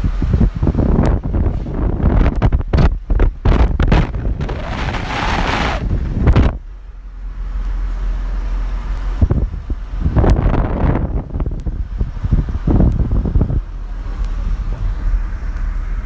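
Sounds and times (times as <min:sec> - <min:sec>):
wind buffeting microphone: 0:00.0 - 0:06.7, 0:09.1 - 0:16.0
vehicle engine and tyres rumbling: 0:00.0 - 0:16.0.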